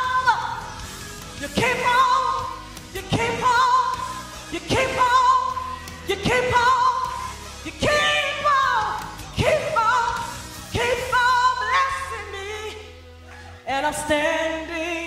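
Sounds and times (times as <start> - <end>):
woman singing gospel song: 0.0 - 0.8, 1.4 - 12.9, 13.6 - 15.0
backing music: 0.0 - 15.0.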